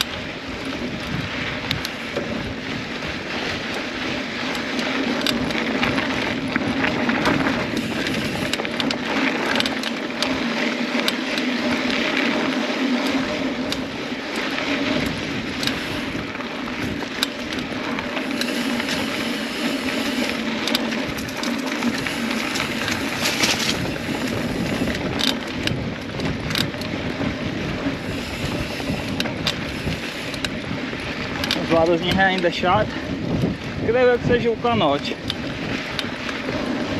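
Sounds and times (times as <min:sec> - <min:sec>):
bike clicks and rattles: 0:00.0 - 0:36.9
bike tyres on dirt trail: 0:00.0 - 0:36.9.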